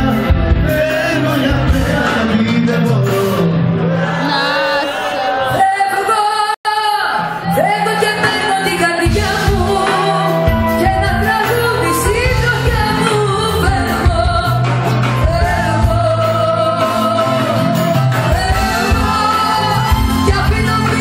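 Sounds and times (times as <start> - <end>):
live band music with singing: 0.0 - 21.0.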